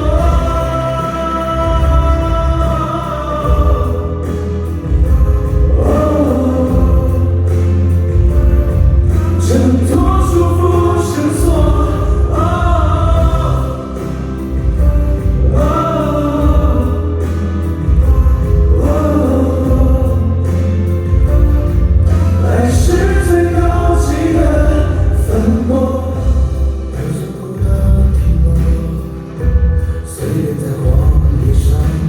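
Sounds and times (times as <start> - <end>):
pop song with singing voice: 0.0 - 32.0.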